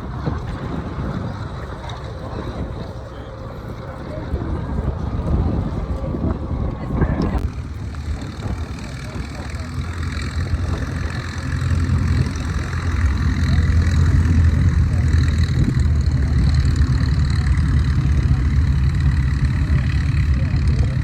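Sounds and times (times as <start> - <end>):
aircraft engine running: 0.0 - 21.0.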